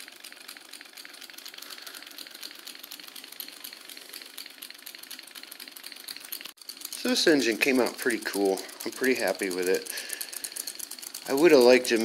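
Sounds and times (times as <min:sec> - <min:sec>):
solenoid engine clattering clicks: 0:00.0 - 0:12.0.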